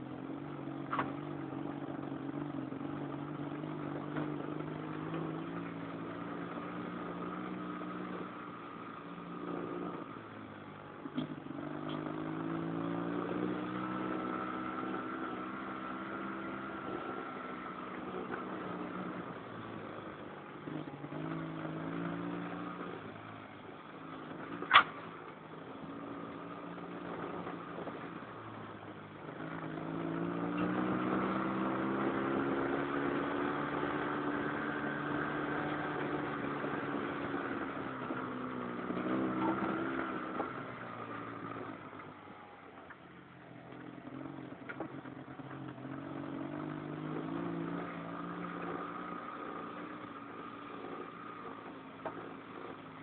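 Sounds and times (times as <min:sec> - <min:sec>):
dune buggy engine revving: 0:00.0 - 0:53.0.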